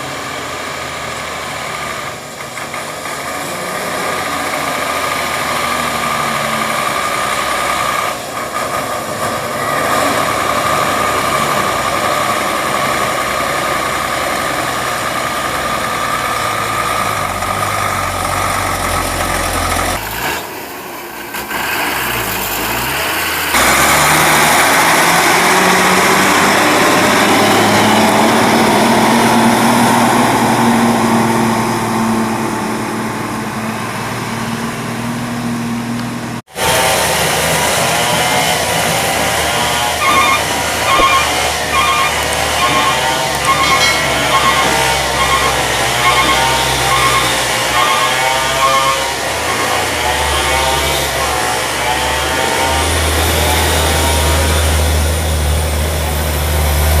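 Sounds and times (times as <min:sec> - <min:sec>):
truck diesel engine running: 0:00.0 - 0:21.4, 0:22.0 - 0:57.0.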